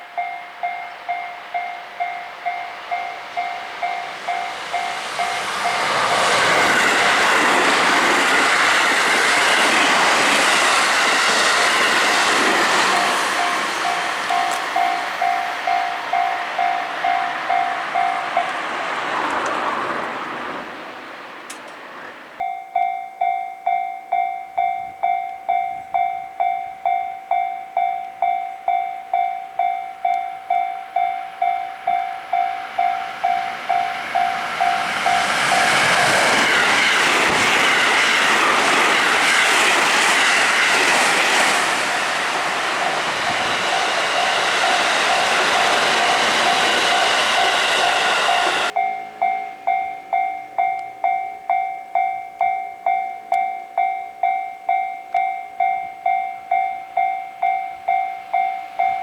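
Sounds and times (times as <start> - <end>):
crossing warning bell dinging: 0.0 - 59.0
train rumble: 0.0 - 59.0.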